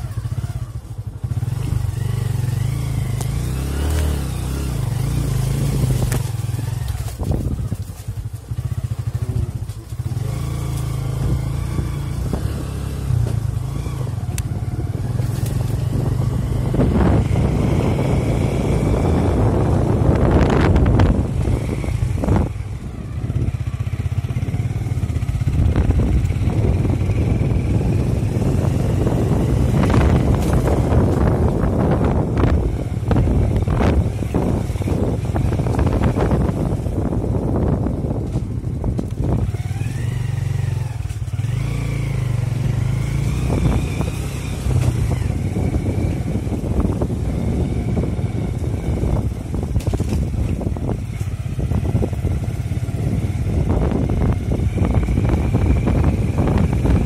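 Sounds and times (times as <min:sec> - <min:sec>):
motorcycle engine running: 0:00.0 - 0:57.0
rattling and rushing noise: 0:00.0 - 0:57.0.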